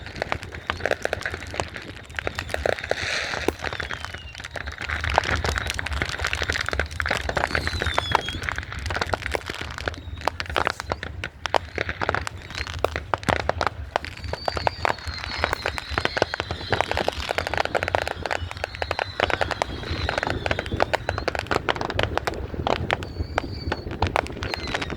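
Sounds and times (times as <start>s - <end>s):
firecrackers cracking: 0.0s - 24.9s
whistling fireworks: 0.0s - 24.9s.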